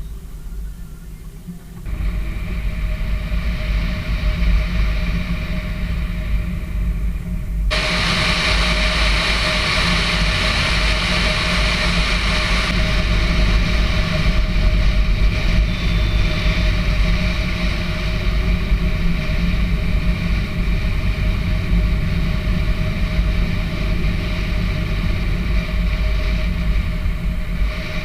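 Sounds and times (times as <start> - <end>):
low road rumble: 0.0 - 28.0
wind hiss: 0.0 - 28.0.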